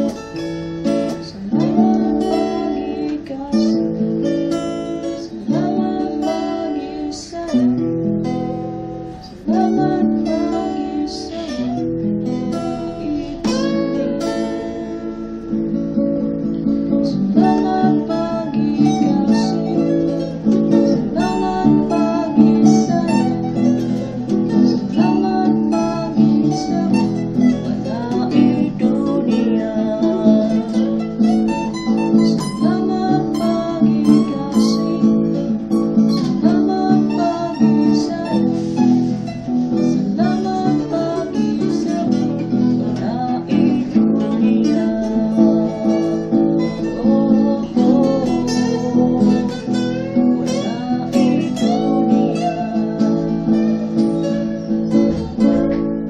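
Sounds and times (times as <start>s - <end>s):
acoustic guitar strumming: 0.0s - 56.0s
electric guitar lead lines: 0.0s - 56.0s.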